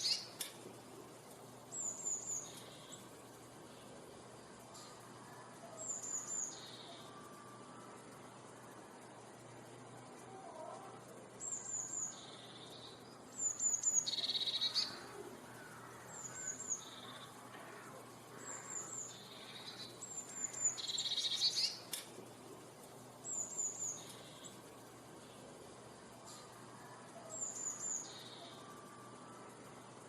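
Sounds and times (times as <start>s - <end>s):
songbird singing with trill: 0.0s - 4.0s, 4.8s - 9.2s, 11.4s - 22.0s, 22.9s - 25.6s, 26.3s - 29.3s.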